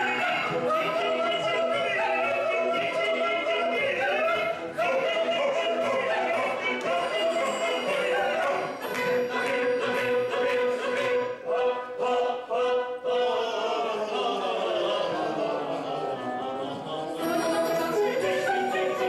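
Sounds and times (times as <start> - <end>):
orchestra playing: 0.0 - 12.9, 14.6 - 19.0
singers: 0.0 - 19.0.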